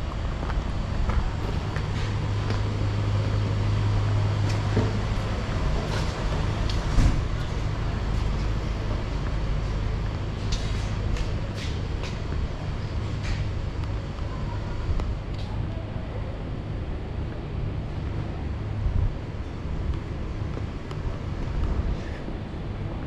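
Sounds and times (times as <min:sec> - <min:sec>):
car engine drone: 0:00.0 - 0:23.0
road noise: 0:00.0 - 0:23.0.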